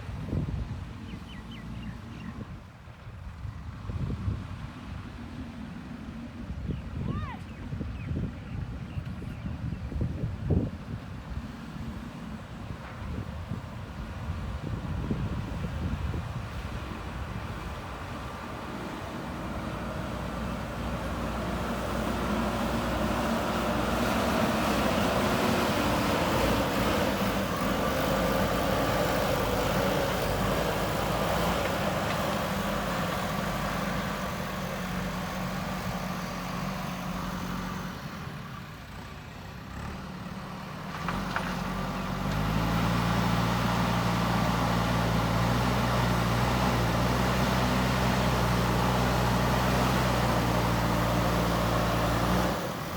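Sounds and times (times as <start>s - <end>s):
diesel engine under load: 0.0s - 52.9s.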